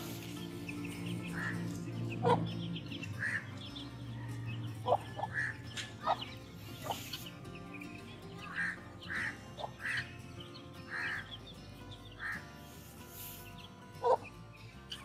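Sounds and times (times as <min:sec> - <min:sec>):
background music: 0:00.0 - 0:15.0
chicks cheeping: 0:00.0 - 0:15.0
hens clucking: 0:00.0 - 0:15.0.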